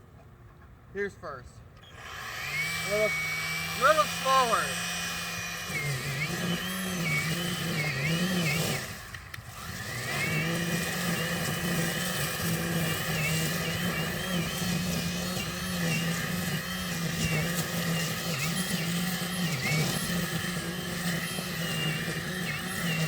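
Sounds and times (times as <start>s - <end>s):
string trimmer motor running: 1.8s - 23.0s
trimmer line cutting grass: 1.8s - 23.0s.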